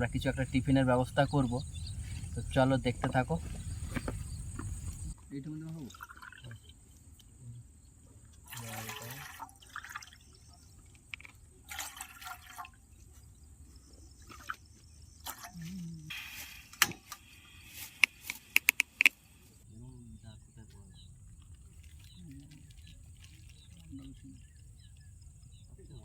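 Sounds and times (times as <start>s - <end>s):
water splashing and trickling: 0.0s - 7.4s, 8.3s - 17.2s, 20.6s - 26.0s.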